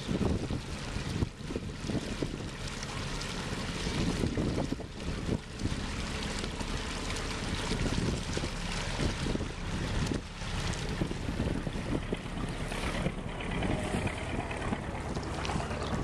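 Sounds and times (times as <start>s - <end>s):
boat engine running: 0.0s - 16.0s
water washing along hull: 0.0s - 16.0s
wind buffeting microphone: 0.0s - 16.0s.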